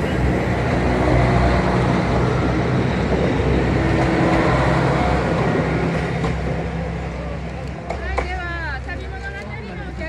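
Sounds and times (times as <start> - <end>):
diesel railcar engine hum: 0.0 - 10.0
track running noise: 0.0 - 10.0.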